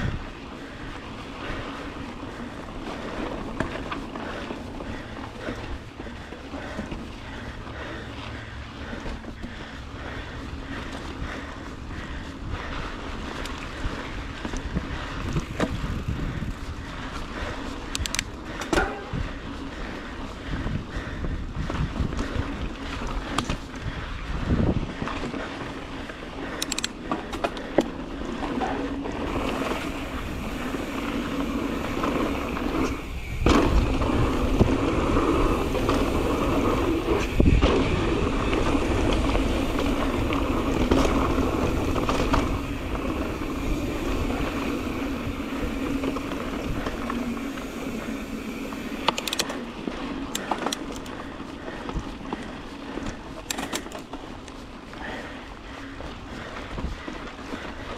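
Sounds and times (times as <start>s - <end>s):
bike knocking and rattling: 0.0s - 57.9s
bike tyres rolling on dirt: 0.0s - 57.9s.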